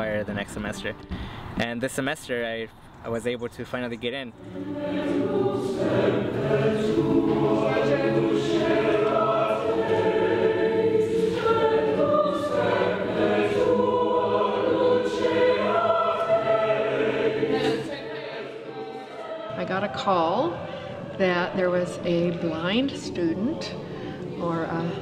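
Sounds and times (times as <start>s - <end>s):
choir singing held chords: 4.3s - 25.0s.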